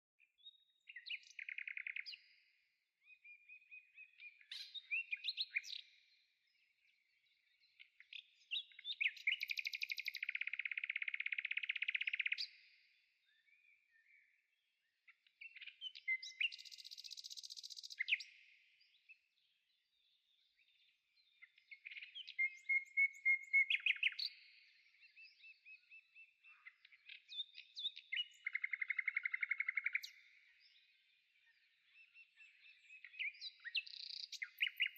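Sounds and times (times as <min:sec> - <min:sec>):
songbird trills and chirps: 0:00.2 - 0:34.9.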